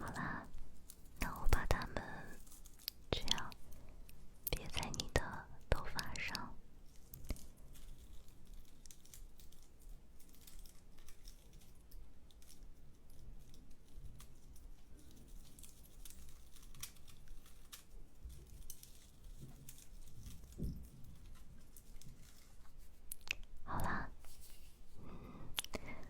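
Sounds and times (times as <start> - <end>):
dried plant material crinkling: 0.0 - 5.2, 6.0 - 25.0.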